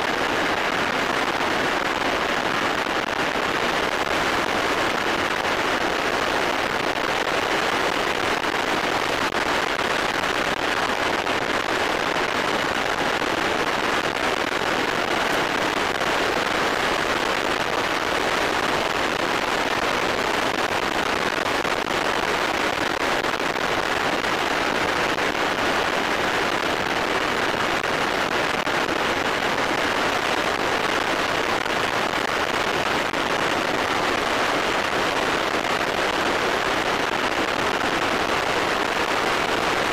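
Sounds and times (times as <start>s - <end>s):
ultralight aircraft in flight: 0.1s - 39.9s.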